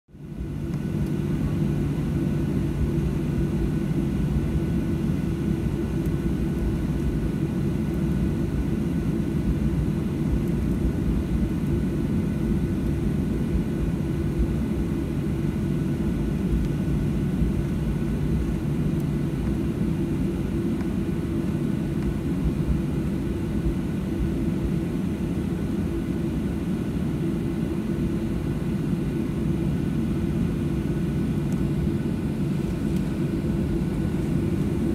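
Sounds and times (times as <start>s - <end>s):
jet engines droning: 0.1s - 34.9s.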